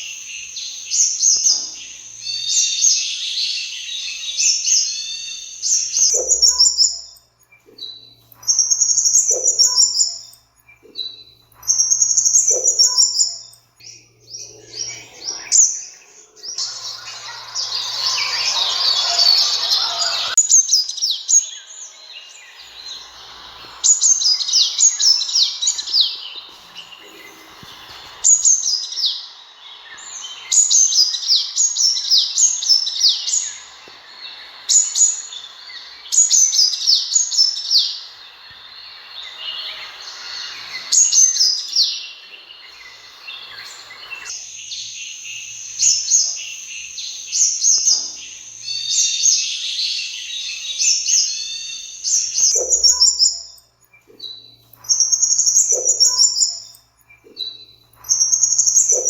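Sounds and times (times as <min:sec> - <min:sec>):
sunbird chirping and twittering: 0:00.0 - 0:59.0.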